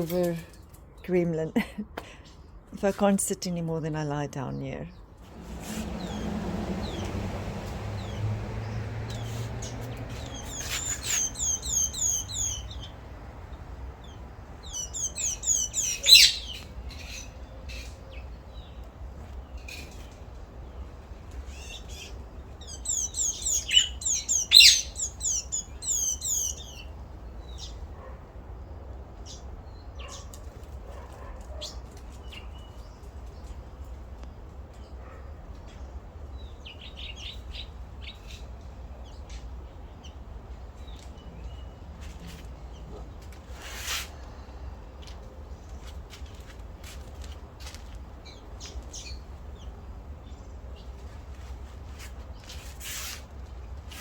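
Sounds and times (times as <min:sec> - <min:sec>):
small birds chirping: 0:04.5 - 0:30.8, 0:31.5 - 0:35.0, 0:35.6 - 0:53.0.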